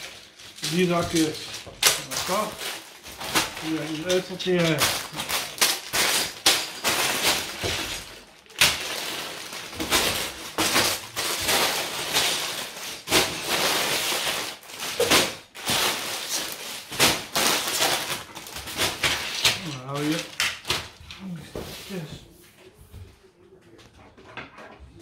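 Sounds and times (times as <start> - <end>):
plastic bags crinkling: 0.0 - 21.3.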